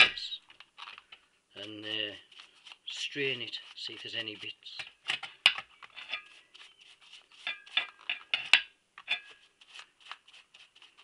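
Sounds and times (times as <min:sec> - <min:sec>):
stiff brush scrubbing metal screen: 0:01.6 - 0:11.0.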